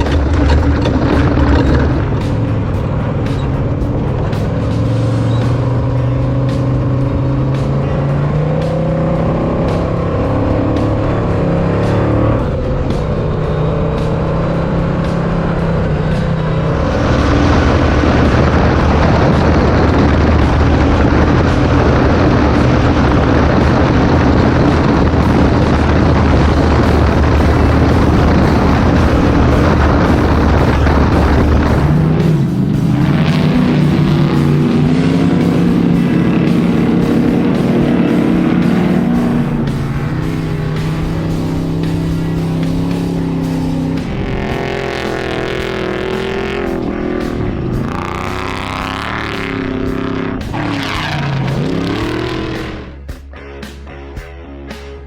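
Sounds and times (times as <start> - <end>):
race vehicle engines revving: 0.0 - 53.2
background music: 0.0 - 55.0.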